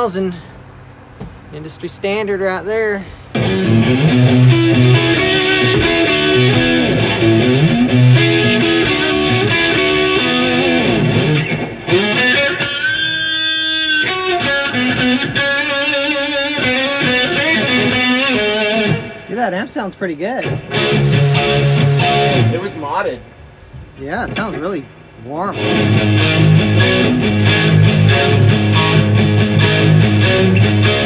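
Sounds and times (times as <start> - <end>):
electric guitar through valve amp: 3.2 - 31.0.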